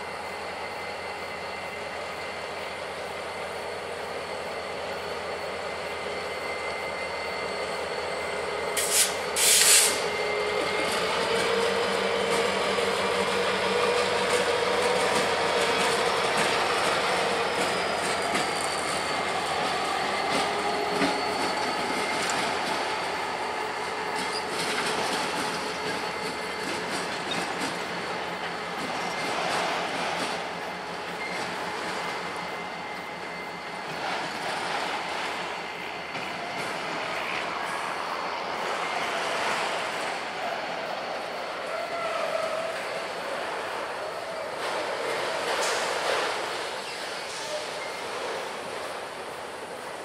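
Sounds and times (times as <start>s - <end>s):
diesel locomotives passing: 0.0s - 50.0s
freight cars rolling on rails: 0.0s - 50.0s
high wheel squeal: 3.4s - 49.1s.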